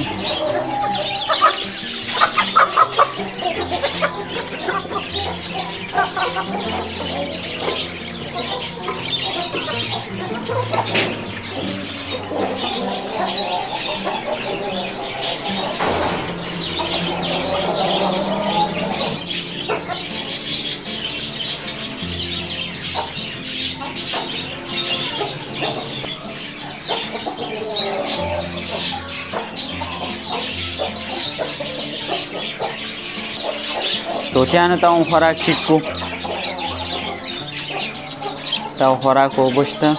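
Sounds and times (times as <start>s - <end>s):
background music: 0.0s - 39.9s
hens clucking: 0.0s - 39.9s.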